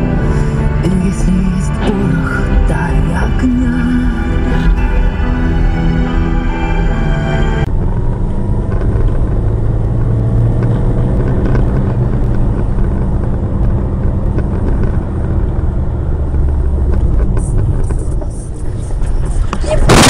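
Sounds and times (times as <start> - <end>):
car driving on snowy road: 0.0 - 20.0.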